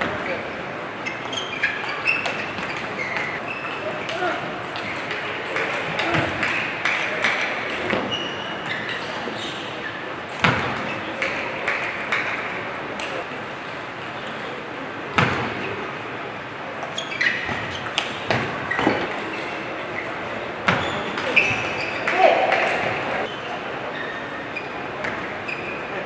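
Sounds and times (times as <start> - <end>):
murmur of indoor hall: 0.0 - 26.0.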